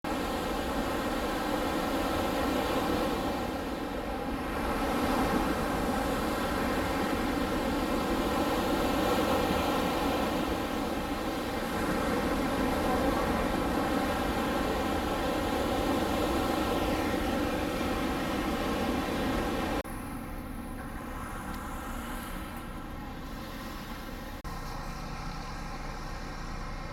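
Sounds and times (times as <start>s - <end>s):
large engine humming: 0.1s - 26.9s.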